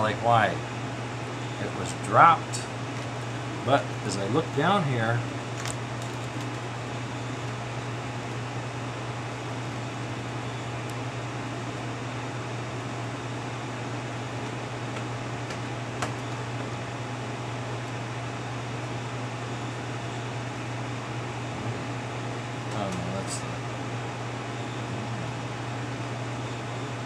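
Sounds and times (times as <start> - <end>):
fan hum: 0.0 - 27.0.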